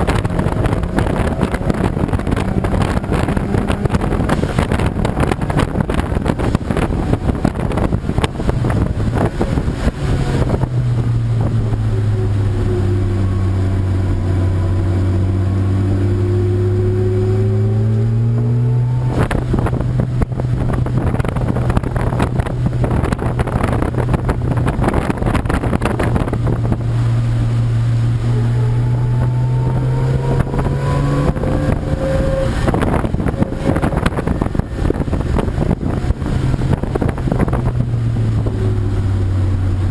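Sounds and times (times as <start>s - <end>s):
race car engine: 0.0s - 39.9s
wind buffeting microphone: 0.0s - 39.9s.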